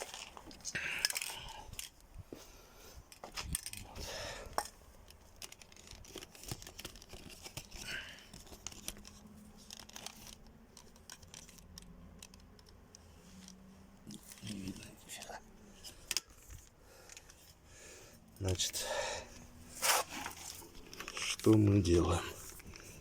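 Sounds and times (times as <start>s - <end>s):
hands handling tools: 0.0s - 17.6s, 18.4s - 23.0s.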